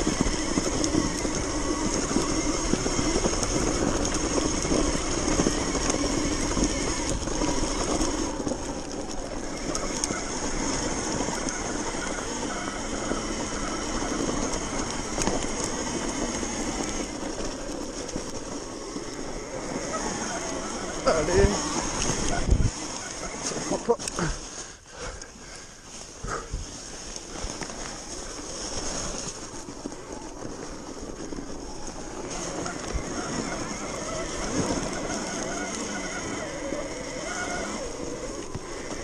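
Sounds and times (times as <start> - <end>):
electric motor whine: 0.0 - 24.3, 27.2 - 39.0
tyres rumbling on snow: 0.0 - 39.0.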